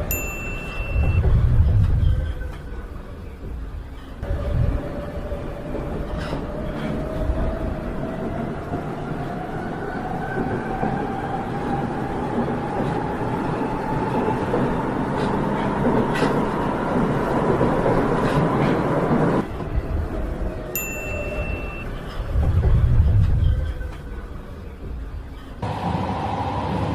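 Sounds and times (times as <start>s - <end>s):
wheels rumbling: 0.0s - 26.9s
subway train motor whine: 0.9s - 26.9s.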